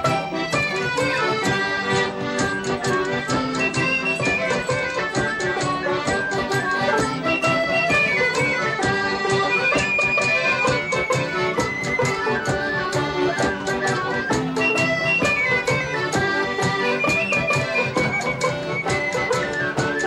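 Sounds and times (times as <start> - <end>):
folk instrumental music: 0.0 - 20.0.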